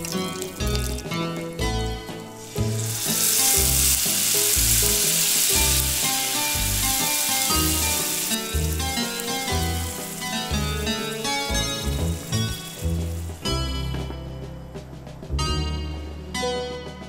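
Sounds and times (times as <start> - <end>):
meatballs frying in oil: 0.0 - 13.9
loud sizzle of tomatoes: 0.0 - 14.3
background music: 0.0 - 17.0.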